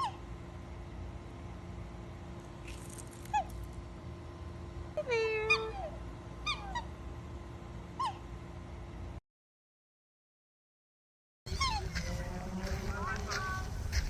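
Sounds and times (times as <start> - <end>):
low background hum: 0.0 - 9.2, 11.5 - 14.0.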